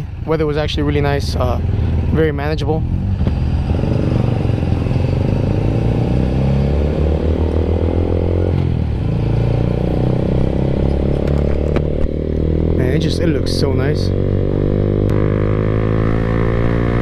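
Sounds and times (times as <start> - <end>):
motorcycle engine running: 0.0 - 6.1, 6.7 - 17.0.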